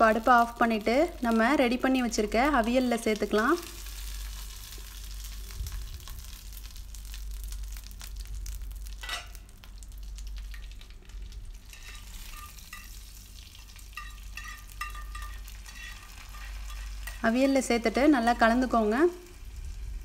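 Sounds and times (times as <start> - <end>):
oil sizzling and crackling in pan: 0.0 - 20.0.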